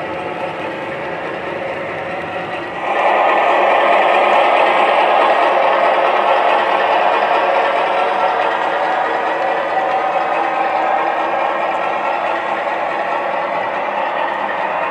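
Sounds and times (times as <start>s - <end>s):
model train wheels clattering: 0.0s - 14.9s.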